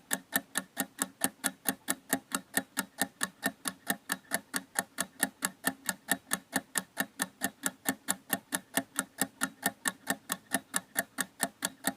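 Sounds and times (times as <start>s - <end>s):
clock ticking fast: 0.0s - 11.9s.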